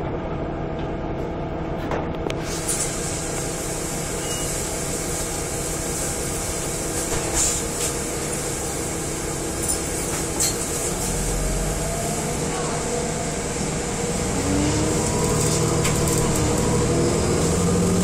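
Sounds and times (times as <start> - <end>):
bus interior engine and road hum: 0.0 - 18.0.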